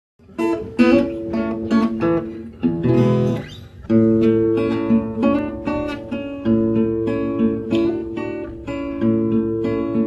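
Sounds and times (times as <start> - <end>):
acoustic guitar: 0.2 - 10.0.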